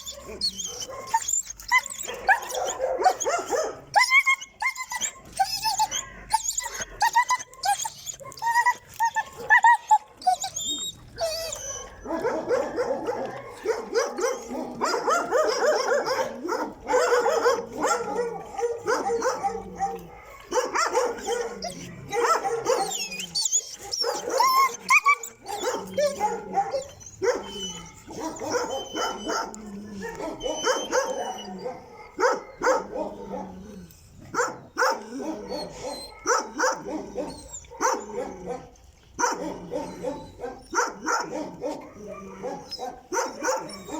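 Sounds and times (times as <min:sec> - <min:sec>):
dogs barking and yipping: 0:00.0 - 0:43.9.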